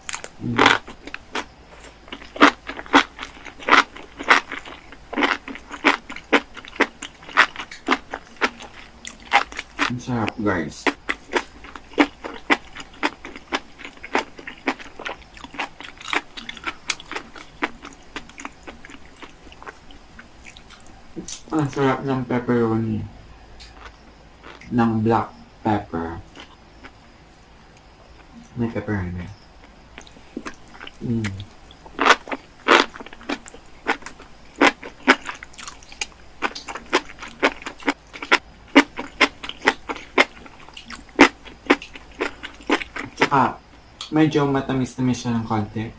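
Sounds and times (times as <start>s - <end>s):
person chewing with wet smacks: 0.0s - 10.0s, 10.8s - 21.8s, 23.6s - 24.7s, 26.3s - 27.0s, 30.0s - 44.1s.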